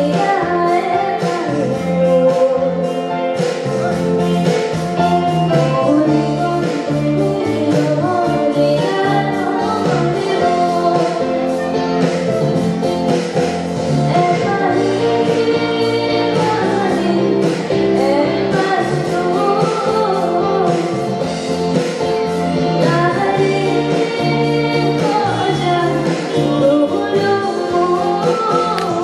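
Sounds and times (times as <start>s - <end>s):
woman singing into microphone: 0.0s - 12.6s, 13.2s - 29.0s
live band playing: 0.0s - 29.0s.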